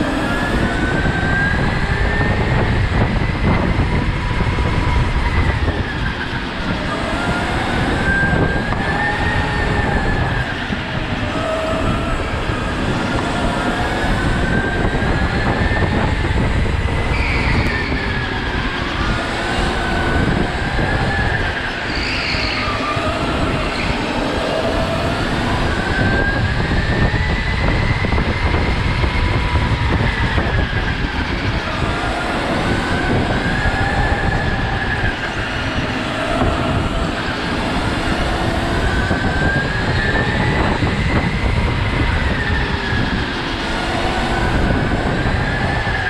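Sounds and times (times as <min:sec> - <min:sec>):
go-kart motor whine: 0:00.0 - 0:46.0.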